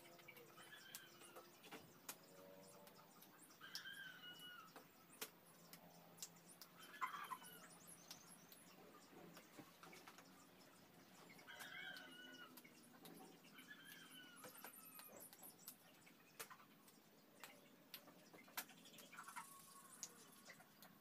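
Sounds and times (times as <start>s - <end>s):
birds chirping faintly: 0.0s - 21.0s.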